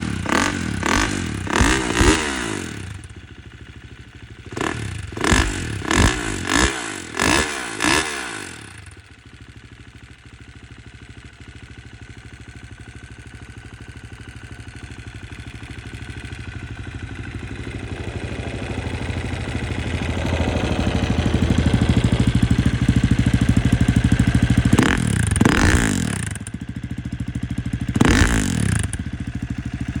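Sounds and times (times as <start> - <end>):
motorcycle engine idling: 0.0 - 30.0
motorcycle engine revving: 0.0 - 30.0.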